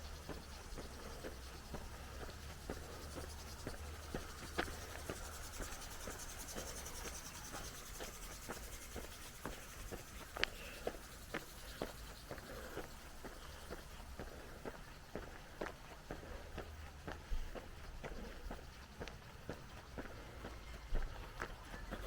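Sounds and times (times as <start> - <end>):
footsteps walking on trail: 0.0 - 22.0.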